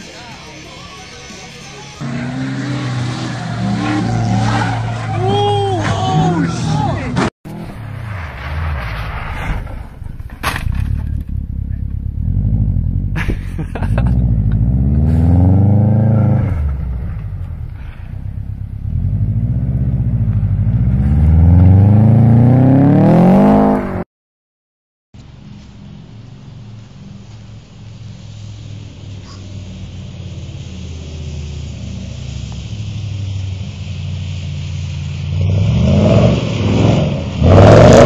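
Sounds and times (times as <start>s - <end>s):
car engine revving: 0.0s - 24.0s, 25.2s - 38.0s.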